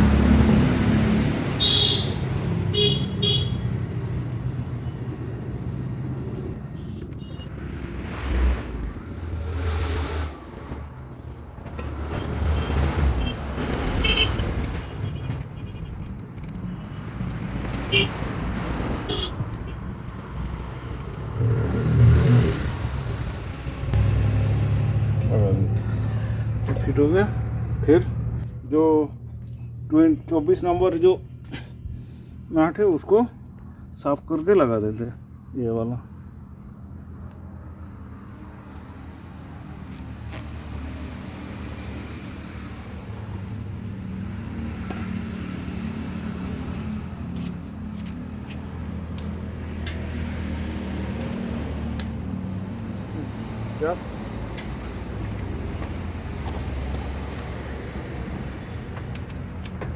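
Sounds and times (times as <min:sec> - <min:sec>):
road vehicle rumble: 0:00.0 - 0:59.9.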